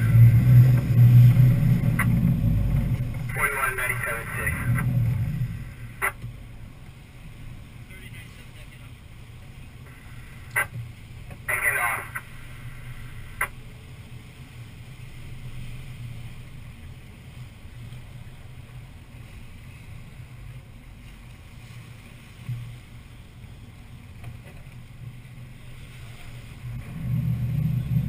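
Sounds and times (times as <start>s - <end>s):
boat engine running: 0.0s - 28.0s
water and wind noise: 0.0s - 28.0s.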